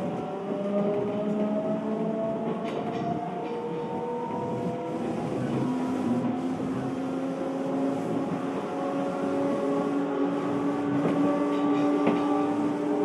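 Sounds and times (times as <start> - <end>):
train motors whining: 0.0 - 13.0
wheels rumbling on rail: 0.0 - 13.0.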